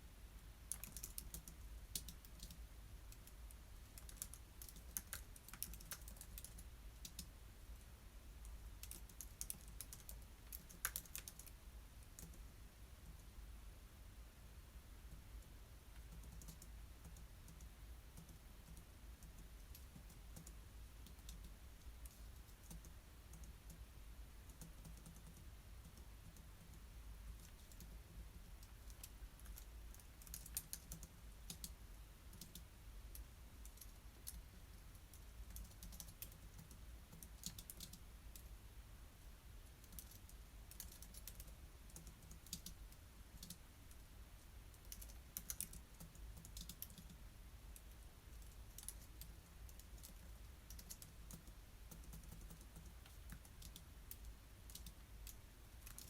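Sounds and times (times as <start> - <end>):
keyboard typing: 0.7 - 7.3, 8.4 - 12.4, 15.1 - 23.8, 24.5 - 26.8, 27.4 - 34.4, 35.1 - 38.5, 39.8 - 42.8, 43.4 - 43.6, 44.7 - 47.2, 47.8 - 56.0.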